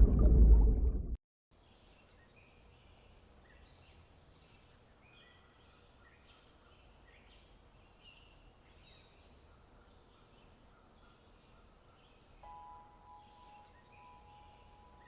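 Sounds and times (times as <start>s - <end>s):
low steady hiss: 1.6s - 15.0s
bird chirps: 1.7s - 15.0s.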